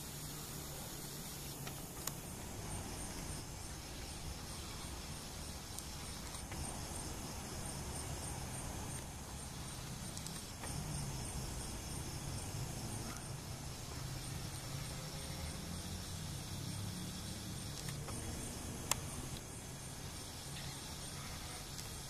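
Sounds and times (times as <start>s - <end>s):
crickets chirping: 0.0s - 22.0s
low rumble and hiss: 0.0s - 22.0s.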